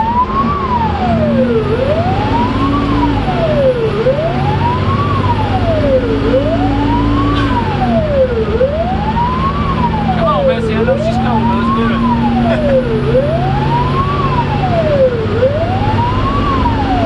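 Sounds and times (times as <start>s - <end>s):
engine drone: 0.0s - 17.0s
fire engine wail siren: 0.0s - 17.0s
road rumble: 0.0s - 17.0s.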